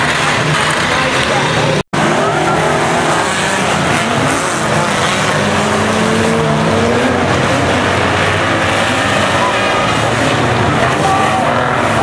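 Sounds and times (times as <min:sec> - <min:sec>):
racing car engines revving: 0:00.0 - 0:12.0
track noise: 0:00.0 - 0:12.0.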